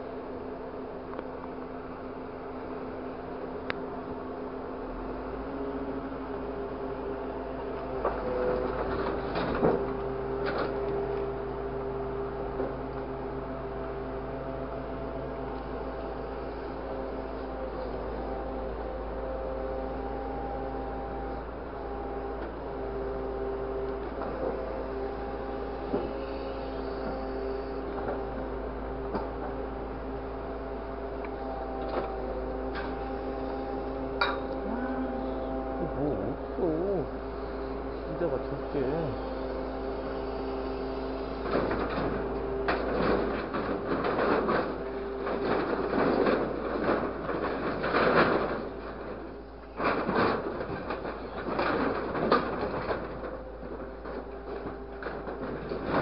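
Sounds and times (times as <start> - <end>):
truck engine and hydraulic whine: 0.0 - 56.0.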